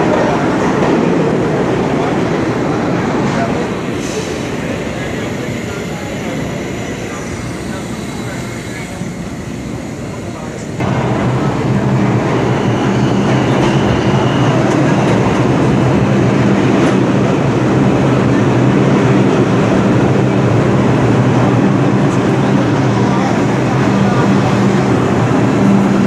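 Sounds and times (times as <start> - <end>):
subway train running through station: 0.0 - 26.0.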